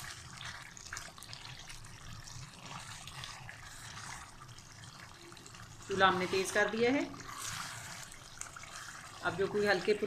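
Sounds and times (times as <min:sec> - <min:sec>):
food sizzling and bubbling in pot: 0:00.0 - 0:10.0.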